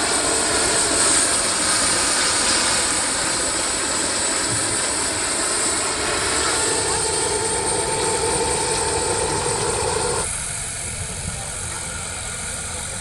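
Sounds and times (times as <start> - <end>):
helicopter rotor noise: 0.0 - 13.0
model helicopter turbine whine: 0.0 - 13.0.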